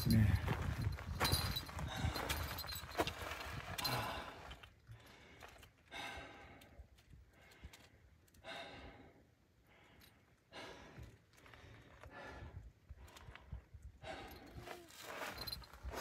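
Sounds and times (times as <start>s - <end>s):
person breathing heavily: 0.2s - 16.0s.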